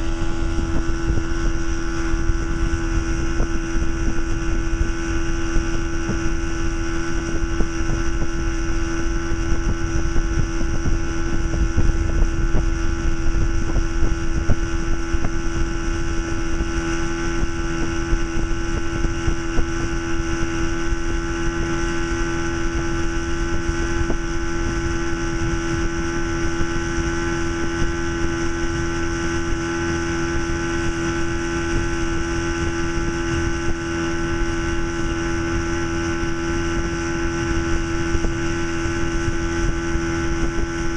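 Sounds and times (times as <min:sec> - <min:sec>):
outboard motor running: 0:00.0 - 0:40.9
wind buffeting microphone: 0:00.0 - 0:40.9.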